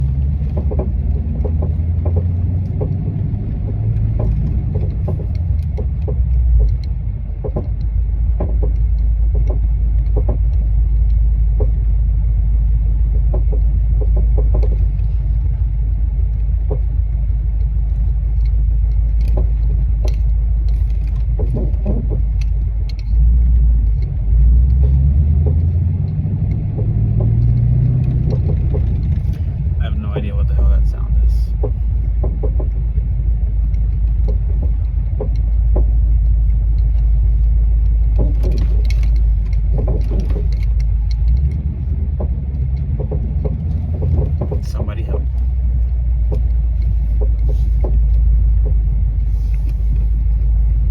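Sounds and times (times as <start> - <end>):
clunks and knocks from car: 0.0 - 12.0, 13.2 - 18.2, 19.0 - 50.9
car engine low rumble: 0.0 - 50.9.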